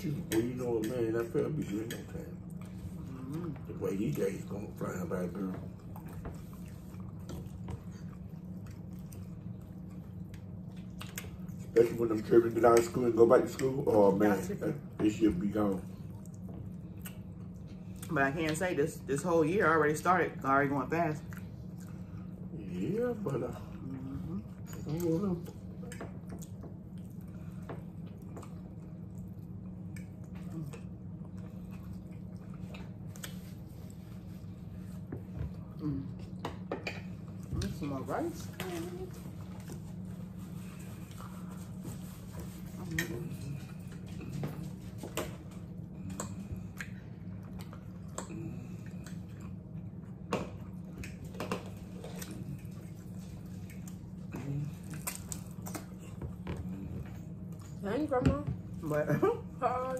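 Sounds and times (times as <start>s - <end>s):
steady low hum: 0.0s - 59.9s
wet chewing sounds: 0.1s - 19.3s, 21.0s - 57.8s.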